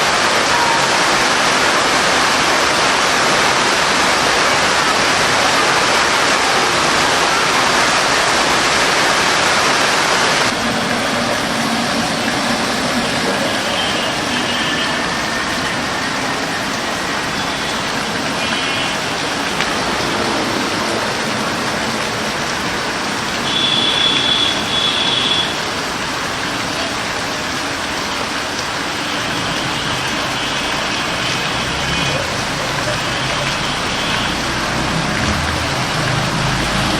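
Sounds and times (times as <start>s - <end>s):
steady rain: 0.0s - 36.9s.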